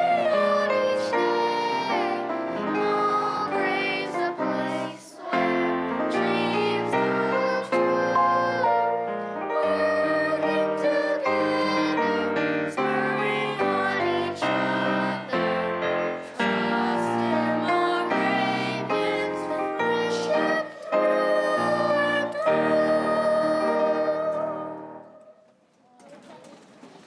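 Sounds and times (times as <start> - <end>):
person singing: 0.0 - 25.4
piano chords: 0.0 - 25.4.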